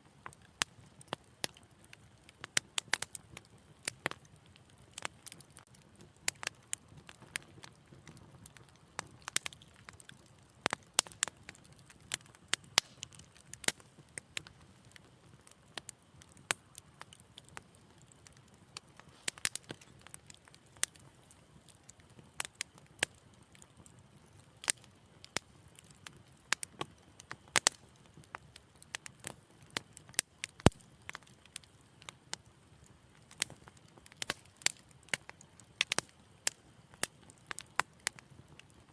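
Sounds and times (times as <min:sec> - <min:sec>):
wood fire crackling: 0:00.0 - 0:38.9
low rumble of flames: 0:00.1 - 0:38.9.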